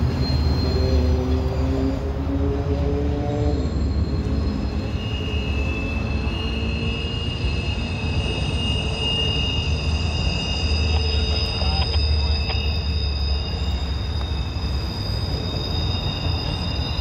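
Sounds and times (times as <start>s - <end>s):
freight train rumbling past: 0.0s - 17.0s
high wheel squeal: 0.0s - 17.0s.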